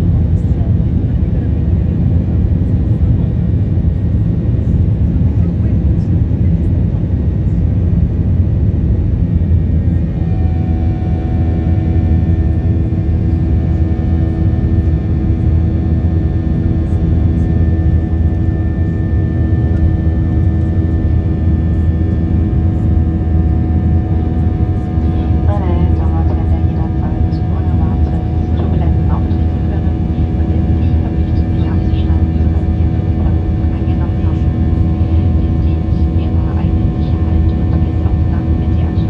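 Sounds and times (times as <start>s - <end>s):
jet engines roaring in cabin: 0.0s - 39.0s
steady whine: 0.0s - 39.0s.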